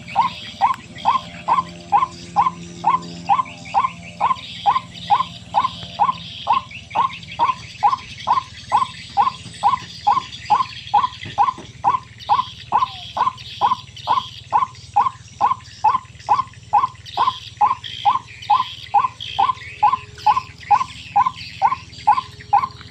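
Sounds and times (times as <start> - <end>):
waterhen calling: 0.0 - 22.9.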